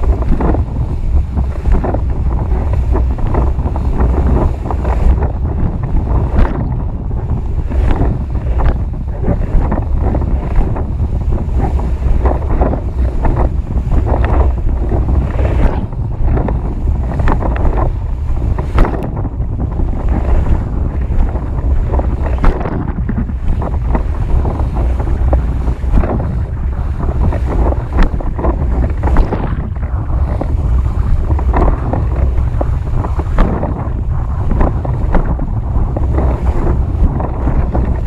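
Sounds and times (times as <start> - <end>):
water slapping against a board: 0.0 - 38.0
wind buffeting the microphone: 0.0 - 38.0.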